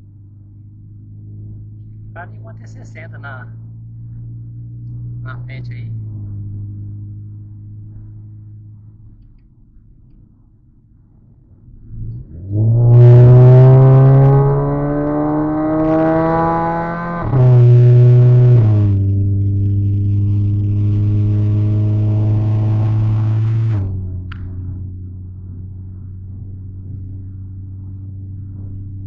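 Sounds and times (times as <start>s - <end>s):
car engine accelerating hard: 0.0s - 9.4s, 11.2s - 29.0s.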